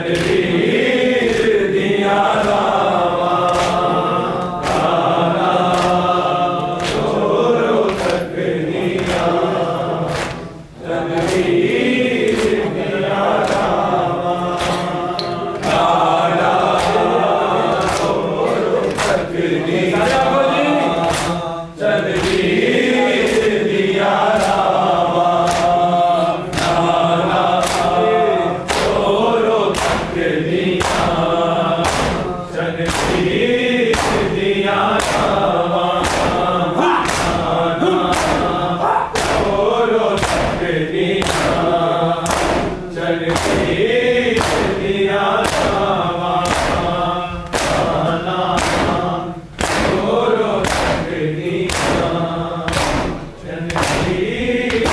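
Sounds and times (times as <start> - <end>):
men chanting in unison: 0.0 - 54.9
hands slapping chests: 0.1 - 21.4, 22.0 - 23.6, 24.2 - 25.9, 26.5 - 28.0, 28.7 - 54.9.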